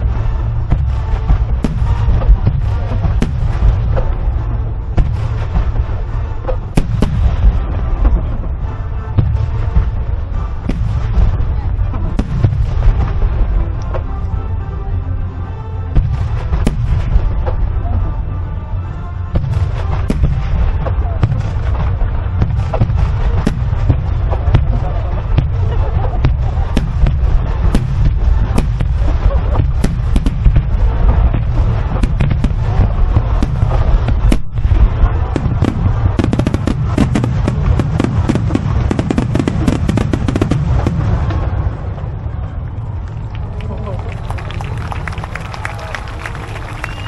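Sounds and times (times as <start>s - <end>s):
sharp firework cracks: 0.0s - 8.5s, 9.2s - 14.1s, 16.0s - 17.6s, 19.4s - 42.1s
fireworks bursts rumbling: 0.0s - 47.0s.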